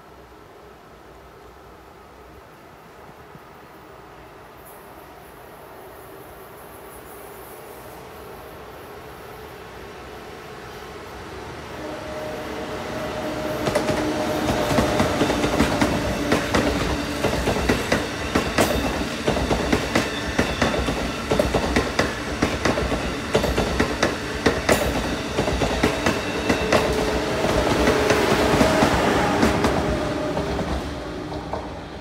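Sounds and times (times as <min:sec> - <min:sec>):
rumble of passing train cars: 0:00.0 - 0:32.0.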